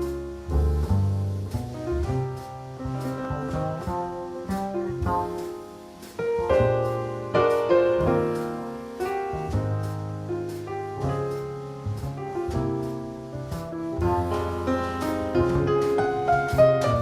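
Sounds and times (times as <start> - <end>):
piano music with bass line: 0.0 - 17.0.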